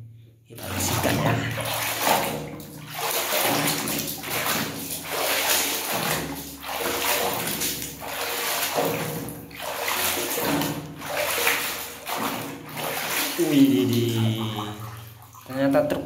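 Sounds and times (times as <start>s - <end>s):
water sloshing in a washtub: 0.5s - 16.0s.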